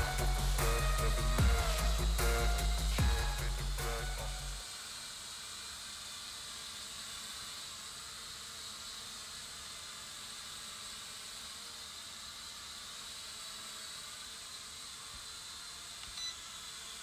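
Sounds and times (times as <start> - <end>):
toy drone buzzing: 0.0 - 17.0.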